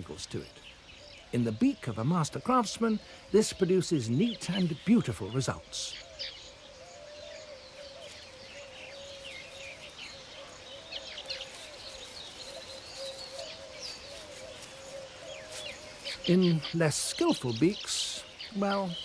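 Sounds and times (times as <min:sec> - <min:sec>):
birds chirping and chattering: 0:00.0 - 0:19.0.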